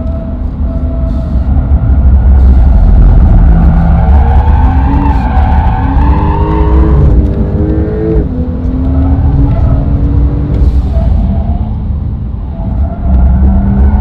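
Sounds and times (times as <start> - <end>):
car engine under hard throttle: 0.0 - 14.0.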